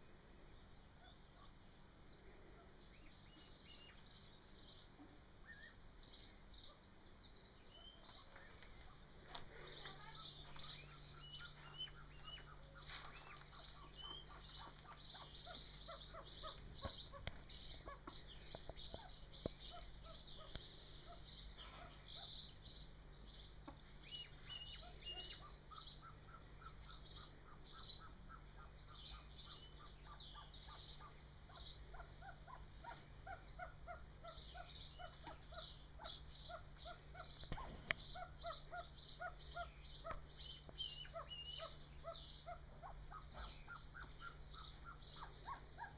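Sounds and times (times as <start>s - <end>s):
chicks peeping: 7.6s - 45.9s.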